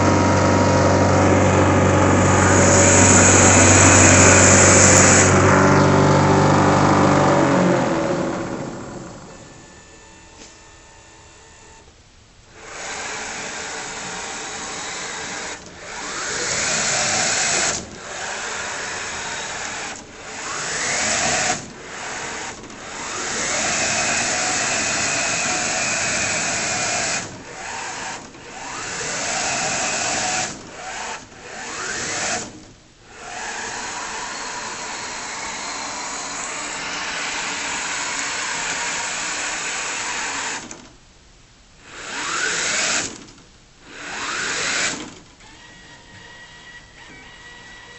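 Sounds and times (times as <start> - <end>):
electric motors whining: 0.0 - 11.9, 12.6 - 40.8, 41.8 - 43.3, 43.9 - 47.9.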